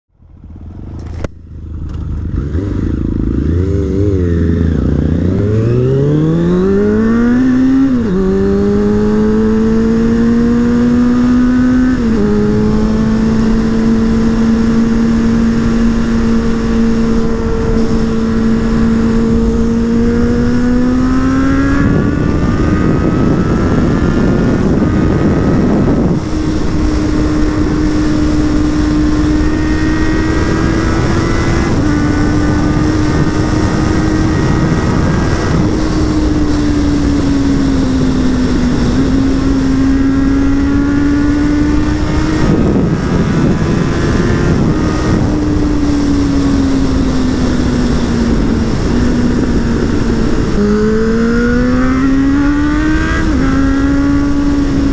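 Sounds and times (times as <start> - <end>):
motorcycle engine accelerating: 0.1 - 54.9
wind rushing over microphone: 0.2 - 54.9.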